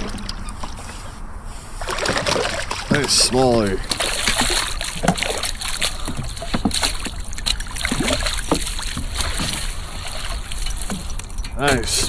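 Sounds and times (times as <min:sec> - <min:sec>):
water splashing against kayak: 0:00.0 - 0:12.0
knocks and rustles: 0:01.8 - 0:12.0.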